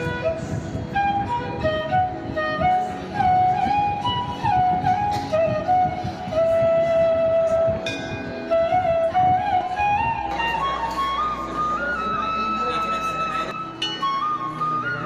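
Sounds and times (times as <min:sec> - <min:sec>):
low musical accompaniment: 0:00.0 - 0:15.0
melody with sliding notes: 0:00.0 - 0:15.0.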